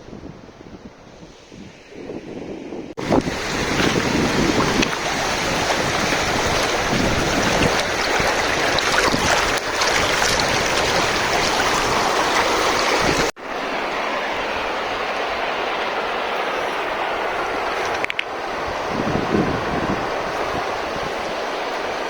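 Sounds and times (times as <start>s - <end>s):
wind buffeting microphone: 0.0s - 13.4s, 14.3s - 22.0s.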